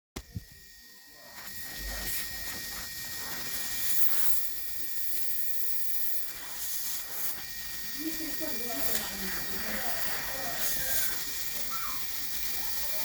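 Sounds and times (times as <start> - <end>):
gas hissing through pipe: 0.2 - 13.0.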